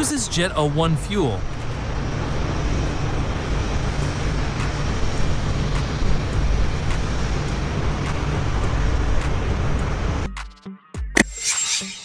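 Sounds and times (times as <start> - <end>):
jet engines roaring: 0.0 - 10.3.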